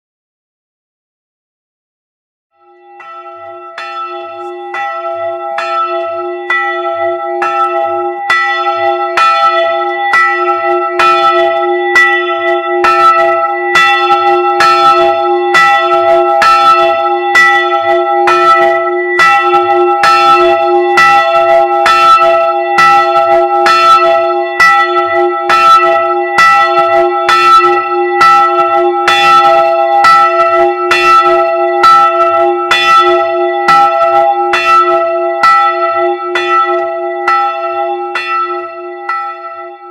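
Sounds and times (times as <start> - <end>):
church bell ringing: 2.6 - 39.9.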